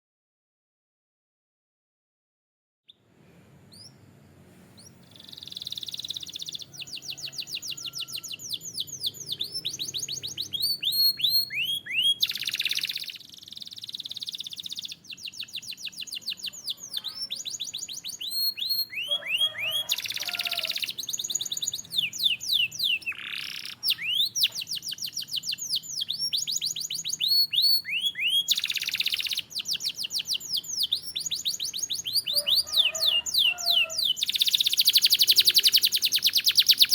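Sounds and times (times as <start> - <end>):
canary singing: 3.7 - 36.9.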